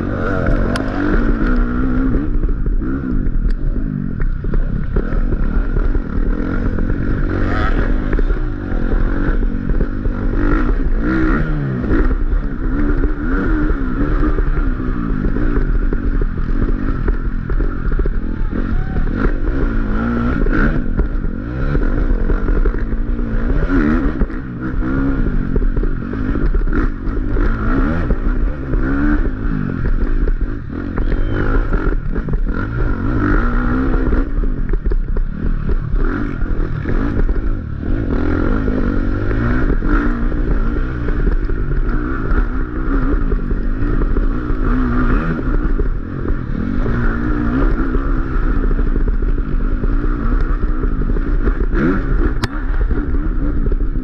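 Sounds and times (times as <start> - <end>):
bike rattling over rough ground: 0.0 - 54.0
dirt bike engine revving: 0.0 - 54.0.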